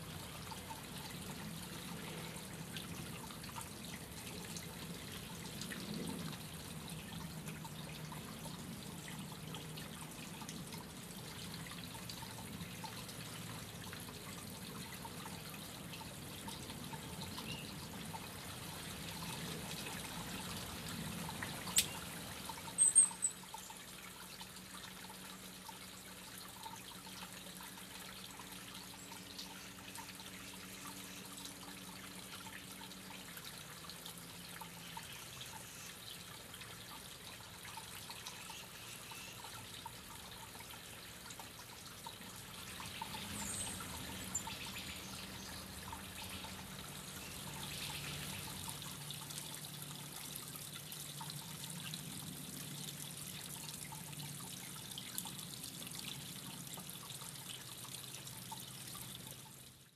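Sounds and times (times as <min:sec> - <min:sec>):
low steady hum: 0:00.0 - 0:59.9
water feature trickling and dripping: 0:00.0 - 0:59.9.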